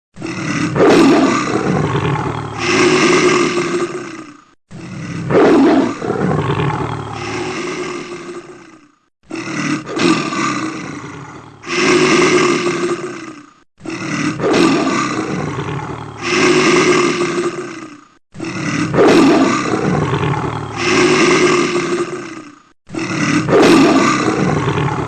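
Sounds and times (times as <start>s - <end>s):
large animals roaring and snarling: 0.1s - 25.0s.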